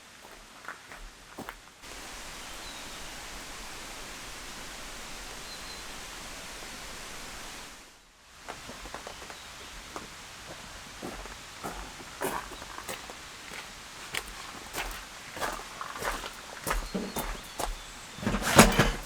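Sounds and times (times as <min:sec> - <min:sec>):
steady rain falling: 0:00.0 - 0:18.2.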